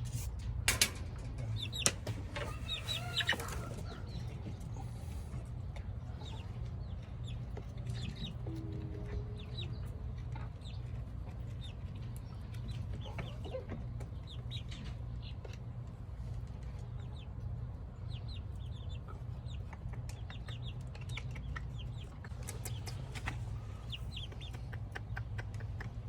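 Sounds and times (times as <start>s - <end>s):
chickens clucking and calling: 0.9s - 26.0s.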